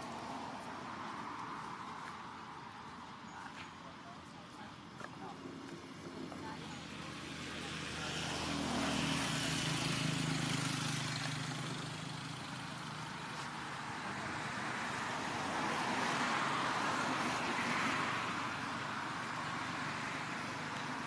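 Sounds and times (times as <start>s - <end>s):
passing vehicle engine hum: 0.0s - 21.0s
traffic noise: 0.0s - 21.0s.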